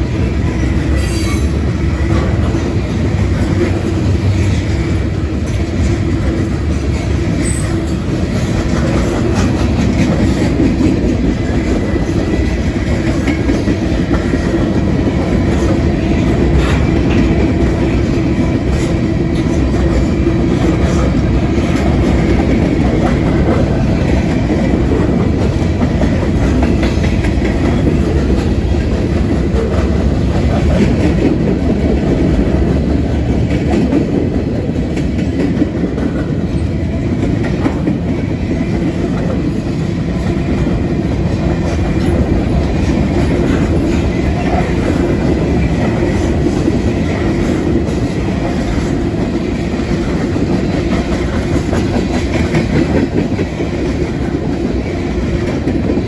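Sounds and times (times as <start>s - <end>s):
freight cars rumbling on rails: 0.0s - 56.0s
wheels clickety-clack: 0.0s - 56.0s.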